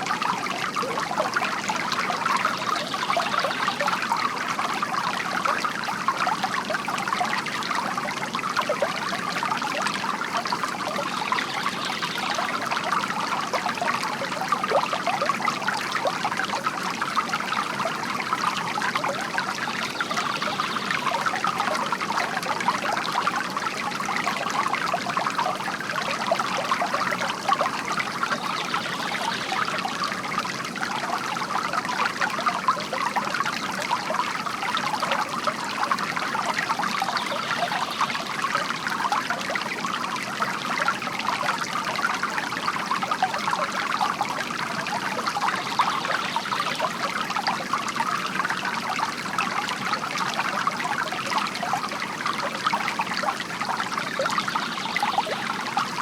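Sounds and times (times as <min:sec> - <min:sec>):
water trickling into basin: 0:00.0 - 0:56.0.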